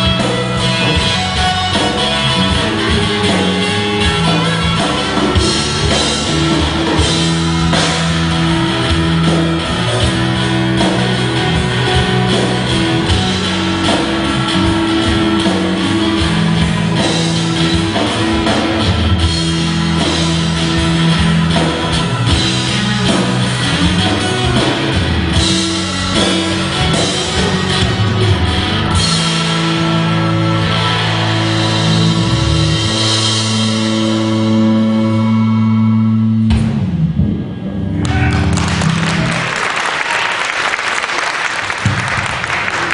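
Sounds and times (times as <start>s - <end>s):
electric guitar: 0.0s - 40.0s
drum kit: 0.0s - 40.1s, 40.9s - 42.9s
bass guitar: 0.0s - 42.9s.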